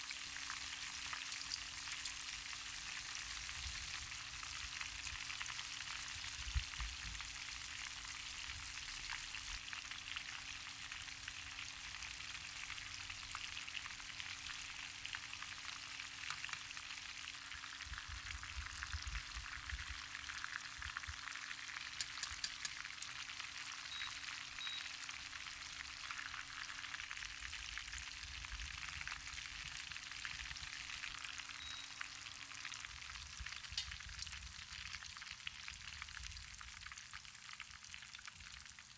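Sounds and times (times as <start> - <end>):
shrimp sizzling in frying oil: 0.0 - 38.9.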